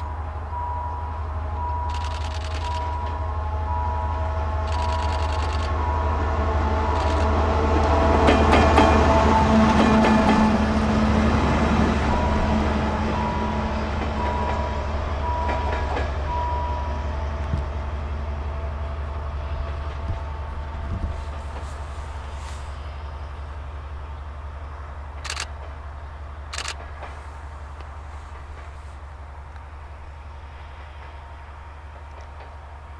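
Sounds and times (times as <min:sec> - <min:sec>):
diesel locomotive engine drone: 0:00.0 - 0:32.9.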